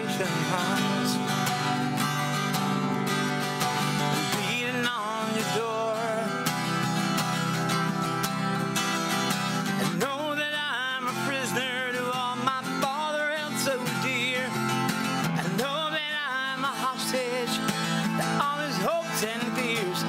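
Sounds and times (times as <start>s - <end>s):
man singing a slow ballad: 0.0s - 2.7s, 3.7s - 6.9s, 9.6s - 20.0s
twelve-string acoustic guitar: 0.0s - 20.0s.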